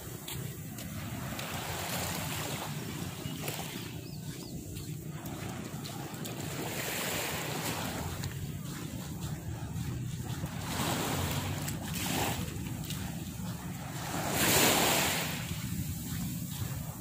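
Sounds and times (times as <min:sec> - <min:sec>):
small waves washing on sand: 0:00.0 - 0:17.0
wind rumbling on microphone: 0:00.0 - 0:17.0.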